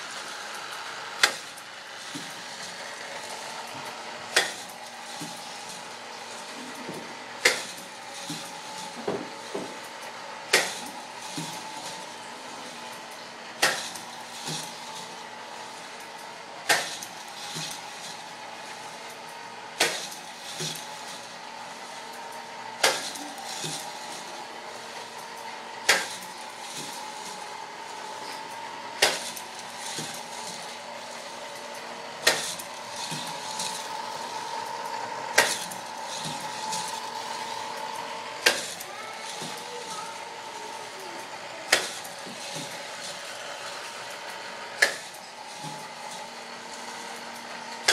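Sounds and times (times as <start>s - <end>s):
mechanical hum: 0.0s - 47.9s
plastic track rattling: 0.0s - 47.9s.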